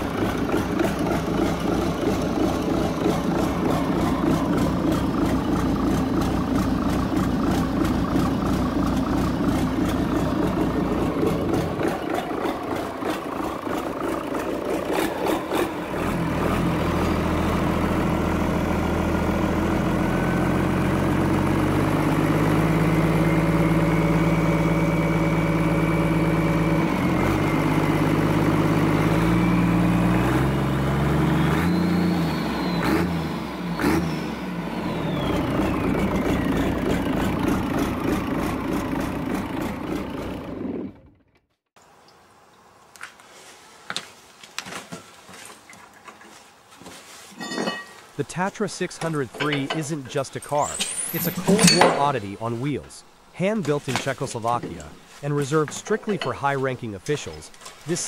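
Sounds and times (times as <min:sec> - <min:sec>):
diesel engine running: 0:00.0 - 0:41.6, 0:47.8 - 0:58.0
engine whine: 0:00.0 - 0:42.0, 0:47.4 - 0:58.0.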